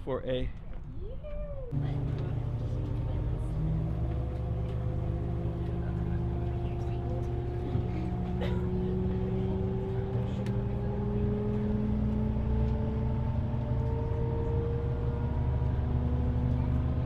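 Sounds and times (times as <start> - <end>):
bus engine rumble: 0.8 - 17.0
bus whine rising: 1.6 - 17.0.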